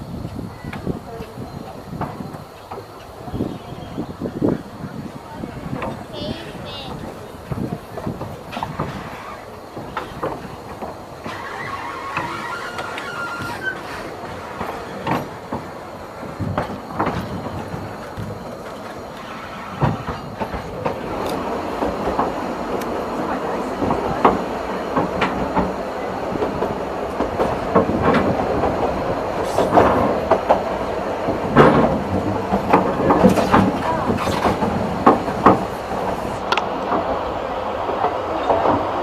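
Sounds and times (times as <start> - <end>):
steady train rumble: 0.0 - 39.0
train wheels clicking over rail joints: 0.0 - 39.0.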